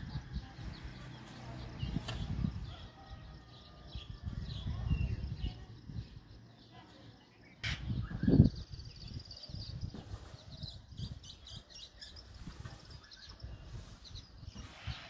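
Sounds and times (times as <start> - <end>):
birds chirping and chattering: 0.0 - 15.0.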